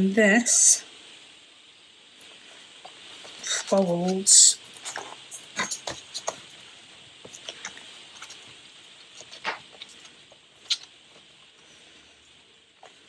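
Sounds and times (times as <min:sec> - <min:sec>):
paper crinkling: 0:02.2 - 0:13.0
paper rustling: 0:02.2 - 0:13.0.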